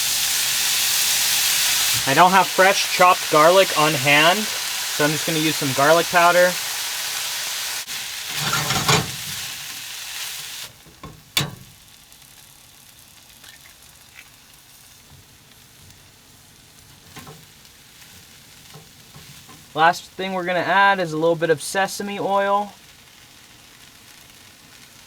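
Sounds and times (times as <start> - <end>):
rice sizzling in a hot pan: 0.0 - 25.0.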